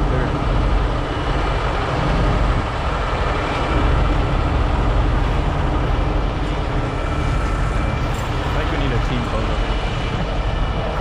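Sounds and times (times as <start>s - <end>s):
diesel engines droning: 0.0s - 11.0s.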